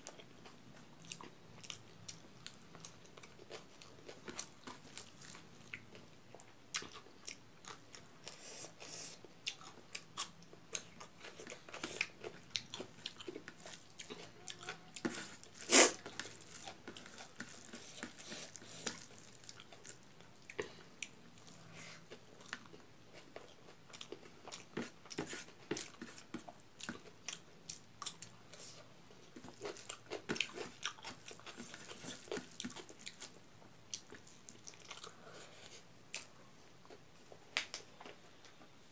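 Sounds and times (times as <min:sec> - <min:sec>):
chewing sounds: 0:00.0 - 0:37.0.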